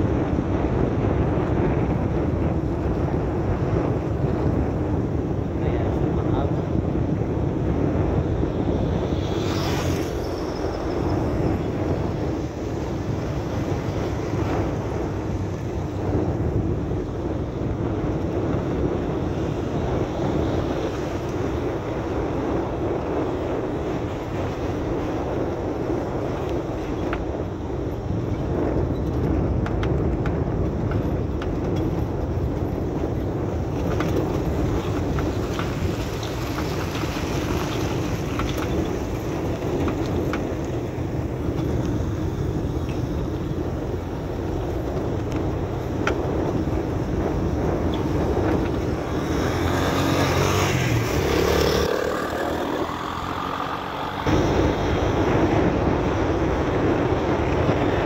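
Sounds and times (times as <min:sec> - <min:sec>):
tyres on gravel road: 0:00.0 - 0:58.0
vehicle engine rumble: 0:00.0 - 0:58.0.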